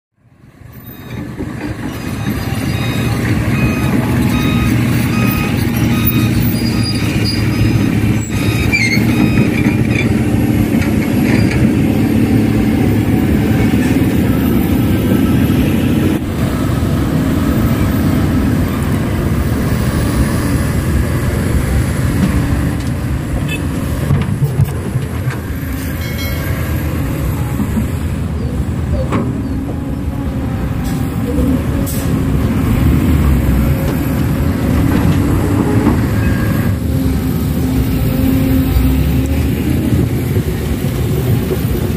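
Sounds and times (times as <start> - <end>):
heavy diesel machinery running: 0.6 - 41.9.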